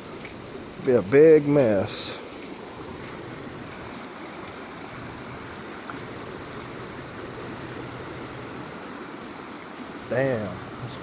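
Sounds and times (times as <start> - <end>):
flooding creek rushing: 0.0 - 11.0.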